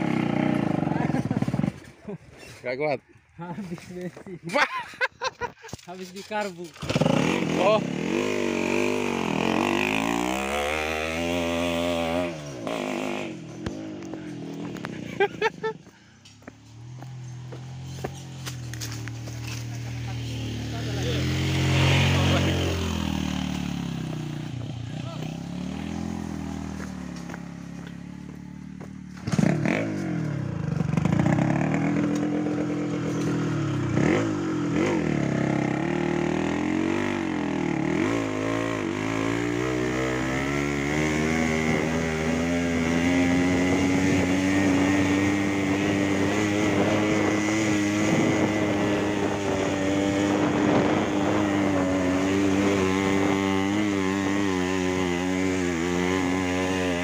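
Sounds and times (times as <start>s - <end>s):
small motorcycle engine revving: 0.0s - 1.9s, 6.7s - 15.2s, 17.1s - 57.0s.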